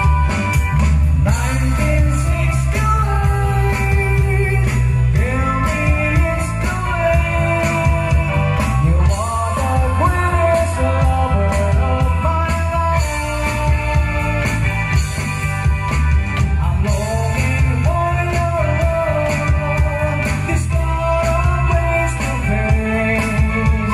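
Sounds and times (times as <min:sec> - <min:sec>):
live rock band playing: 0:00.0 - 0:23.9
man singing: 0:01.2 - 0:15.0, 0:16.5 - 0:23.9.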